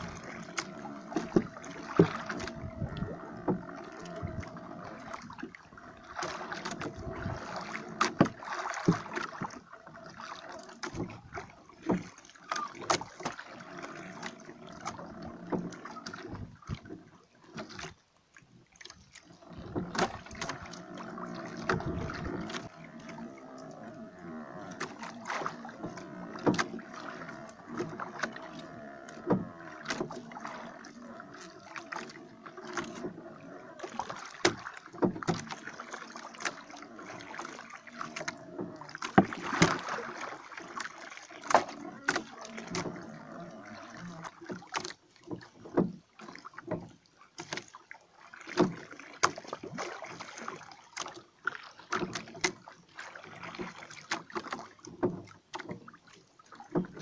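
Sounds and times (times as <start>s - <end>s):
water sloshing against hull: 0.0s - 57.0s.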